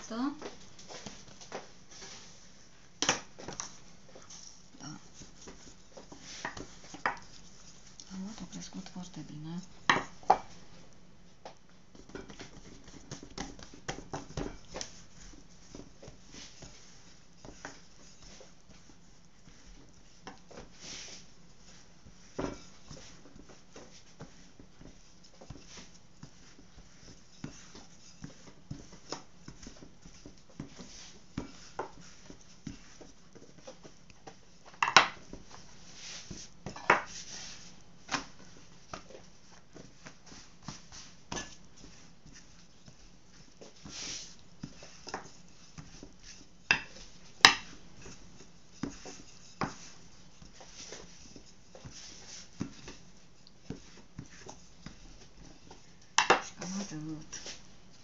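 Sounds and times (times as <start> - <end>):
rolling pin rolling dough: 0.1 - 58.0.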